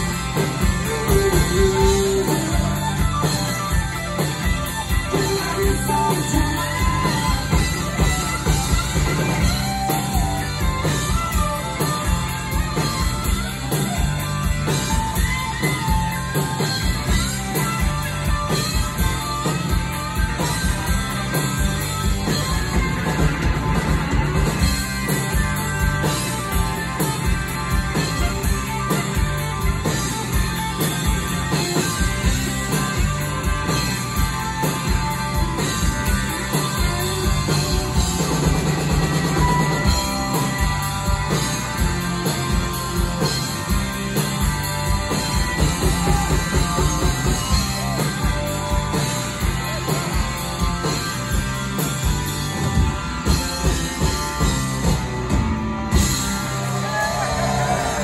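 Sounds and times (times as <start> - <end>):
drum kit: 0.0 - 58.0
electric guitar lead: 0.0 - 58.0.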